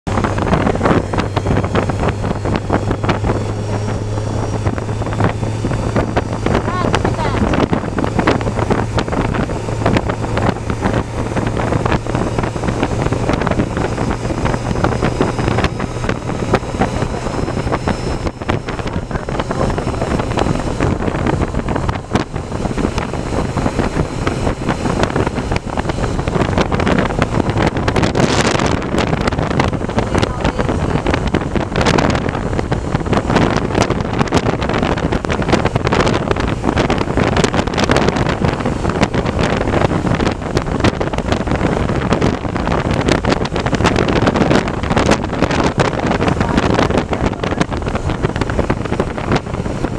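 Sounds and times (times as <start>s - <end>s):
motorcycle engine drone: 0.0s - 49.9s
wind rushing over microphone: 0.0s - 49.9s.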